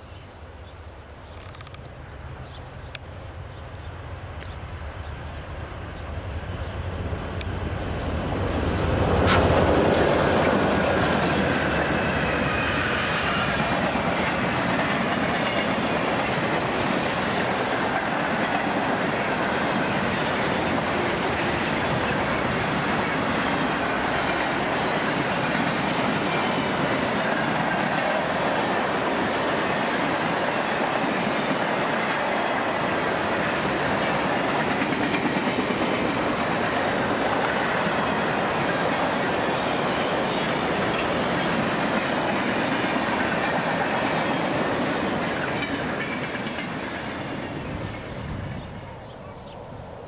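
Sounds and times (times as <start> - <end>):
diesel locomotives passing: 0.0 - 50.0
train wheels clattering on rails: 7.2 - 48.1.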